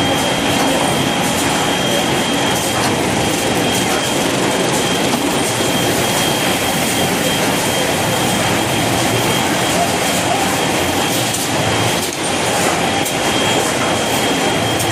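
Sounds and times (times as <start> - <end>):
high-pitched machine whine: 0.0 - 14.9
machinery mechanical din: 0.0 - 14.9.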